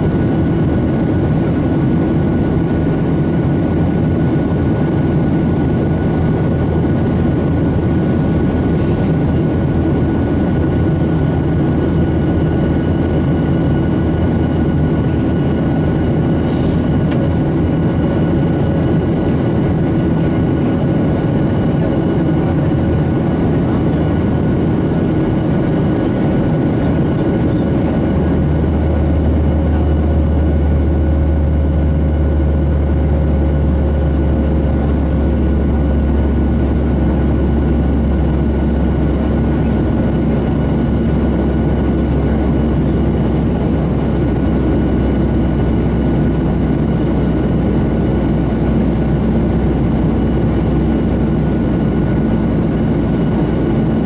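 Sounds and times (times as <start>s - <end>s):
jet engine drone: 0.0s - 54.0s.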